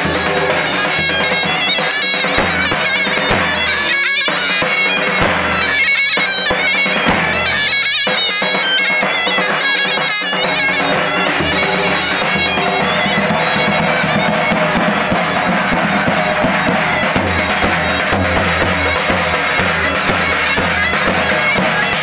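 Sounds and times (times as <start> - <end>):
reedy shawm melody: 0.0 - 22.0.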